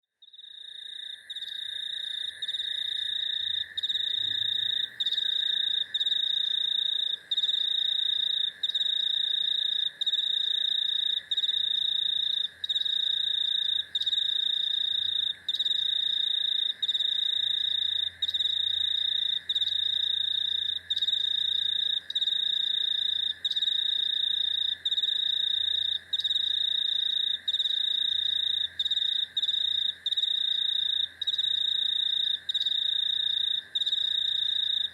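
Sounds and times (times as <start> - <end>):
low continuous insect buzz: 0.1 - 34.9.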